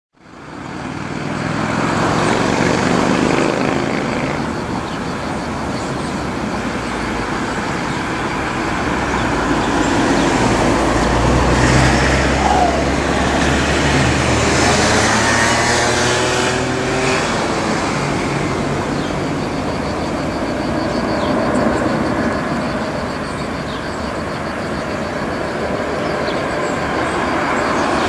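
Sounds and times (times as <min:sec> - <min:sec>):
jet airliner rumble and rush: 0:00.4 - 0:28.0.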